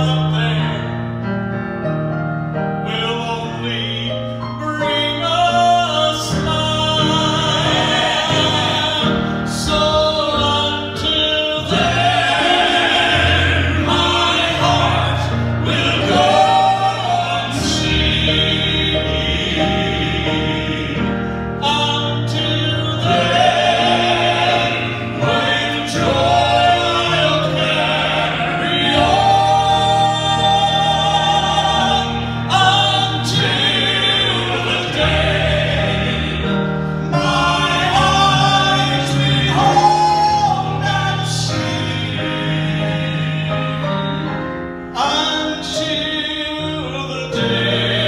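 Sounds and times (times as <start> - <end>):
men singing in harmony: 0.0 - 1.4, 2.8 - 48.0.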